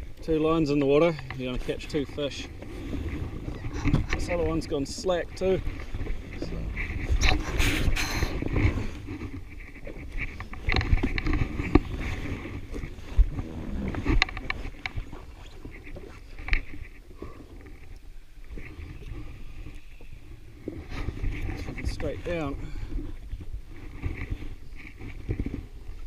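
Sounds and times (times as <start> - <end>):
sea noise: 0.0 - 26.0
wind: 0.0 - 26.0
fishing gear knocks and clicks: 0.1 - 26.0.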